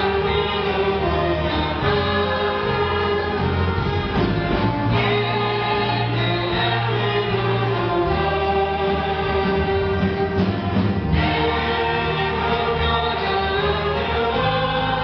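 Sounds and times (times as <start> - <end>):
orchestra playing a hymn: 0.0 - 15.0.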